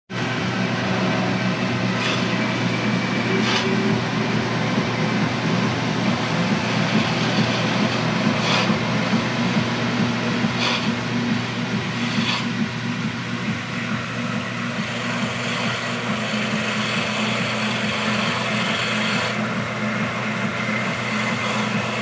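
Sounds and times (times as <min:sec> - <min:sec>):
wood lathe motor hum: 0:00.1 - 0:22.0.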